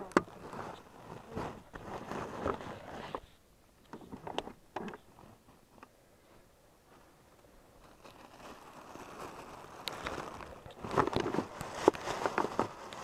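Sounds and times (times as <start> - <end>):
sacks being handled: 0.0 - 3.4, 5.0 - 13.0
faint rustling: 0.0 - 13.0.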